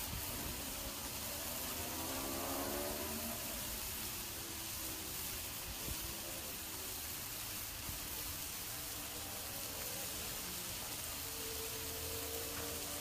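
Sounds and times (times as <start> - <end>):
chicken sizzling on griddle: 0.0 - 13.0.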